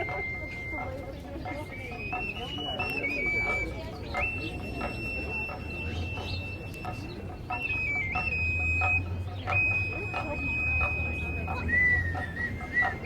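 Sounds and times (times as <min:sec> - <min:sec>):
high flute holding long notes: 0:00.0 - 0:13.0
small drum beating steadily: 0:00.0 - 0:13.0.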